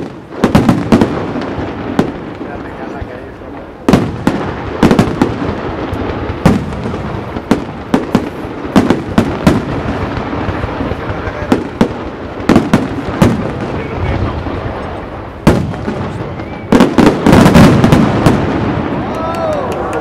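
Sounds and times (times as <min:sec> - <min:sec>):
fireworks crackle: 0:00.0 - 0:20.0.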